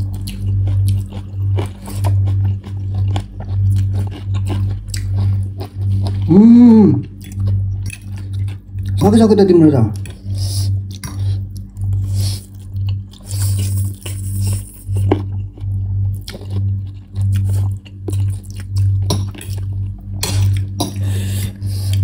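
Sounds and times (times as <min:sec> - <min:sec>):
chewing and slurping noodles: 0:00.0 - 0:06.4, 0:07.0 - 0:09.0, 0:09.9 - 0:22.0.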